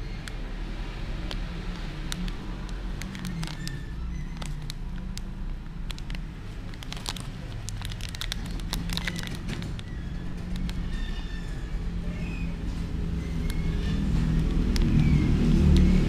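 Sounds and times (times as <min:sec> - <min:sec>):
plastic bag crinkling: 0:01.2 - 0:11.6, 0:12.5 - 0:16.0.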